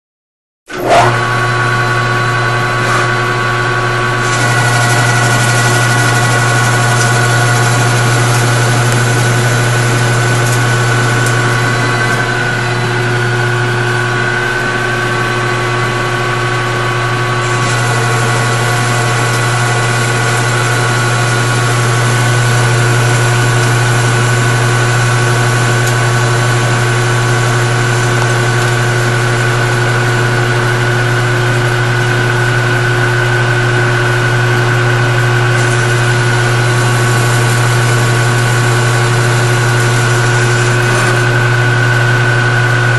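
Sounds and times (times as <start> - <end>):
lathe motor hum: 0.7 - 42.9.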